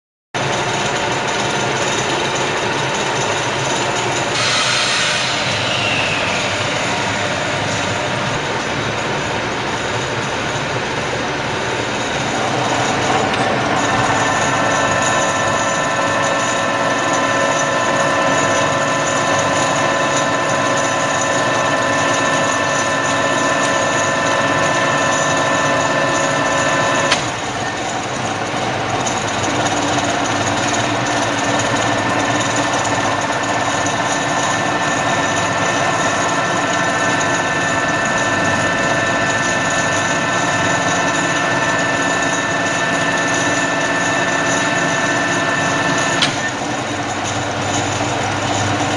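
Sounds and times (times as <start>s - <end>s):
drilling machine running: 0.4s - 48.9s
whining gear tones: 1.2s - 48.9s.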